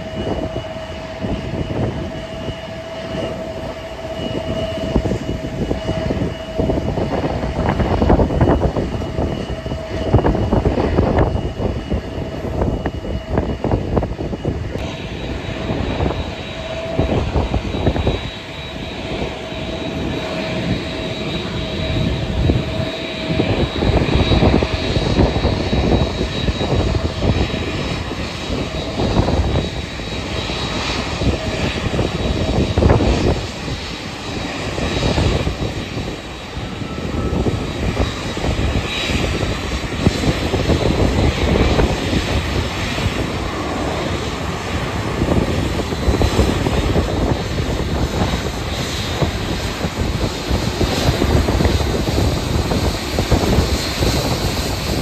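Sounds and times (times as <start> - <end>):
jet engines whining: 0.0 - 55.0
wind buffeting microphone: 0.0 - 55.0.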